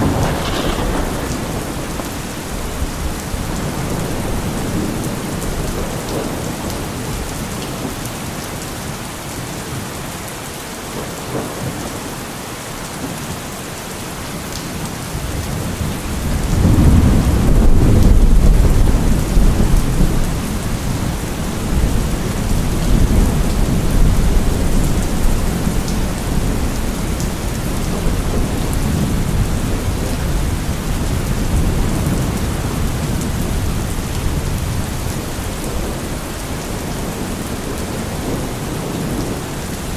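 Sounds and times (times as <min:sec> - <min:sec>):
thunder rumbling: 0:00.0 - 0:07.4, 0:15.2 - 0:39.9
steady rain: 0:00.0 - 0:39.9.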